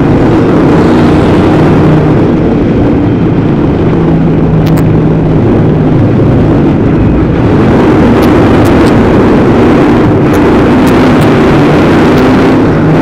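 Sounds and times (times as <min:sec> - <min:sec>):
stock car engine running: 0:00.0 - 0:13.0.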